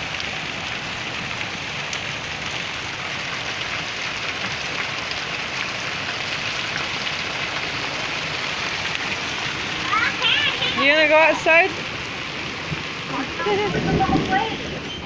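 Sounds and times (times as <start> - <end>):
hailstones striking: 0.0 - 14.9
hail falling: 0.0 - 15.0.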